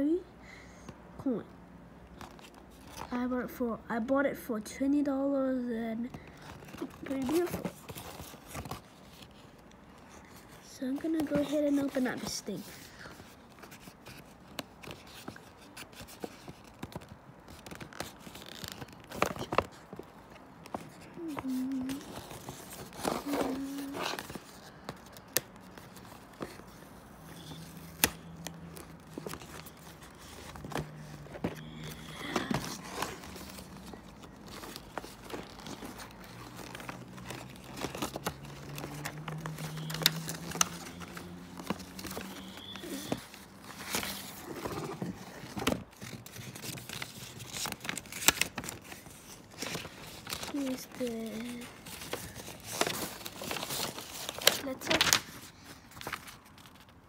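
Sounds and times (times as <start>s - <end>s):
paper packaging crinkling: 6.1s - 57.0s.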